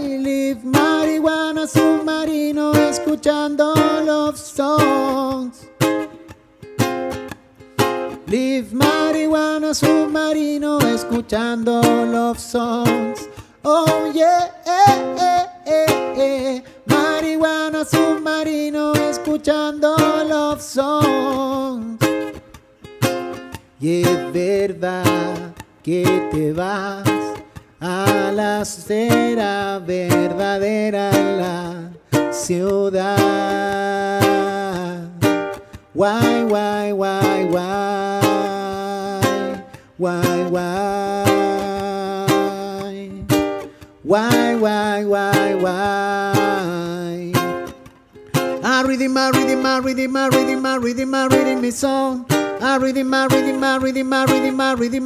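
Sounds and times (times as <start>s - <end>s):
ukulele strumming and picking: 0.0s - 55.0s.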